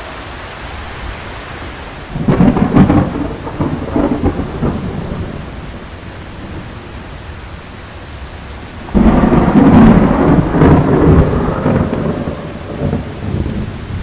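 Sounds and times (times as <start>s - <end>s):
heavy rain: 0.0s - 14.0s
thunder clap and rumbles: 2.1s - 14.0s.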